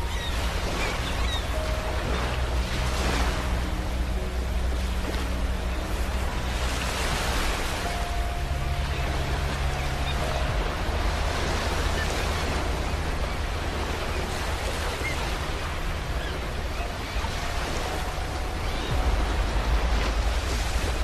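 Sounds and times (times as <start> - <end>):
ocean surf washing onto beach: 0.0 - 21.0.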